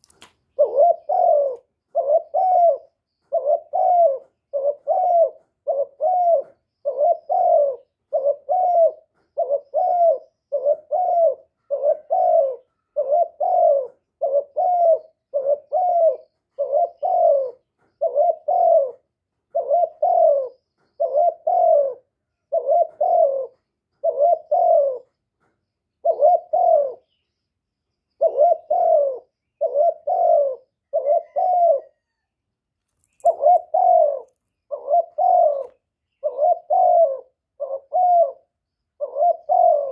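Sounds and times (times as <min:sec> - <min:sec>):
dove cooing: 0:00.5 - 0:25.2, 0:26.0 - 0:27.1, 0:28.2 - 0:32.3, 0:33.2 - 0:39.9.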